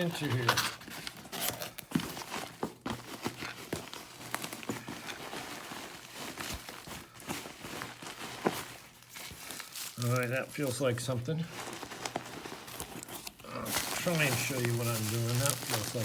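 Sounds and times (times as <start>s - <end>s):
packaging taps scrapes and rustles: 0.0s - 16.0s.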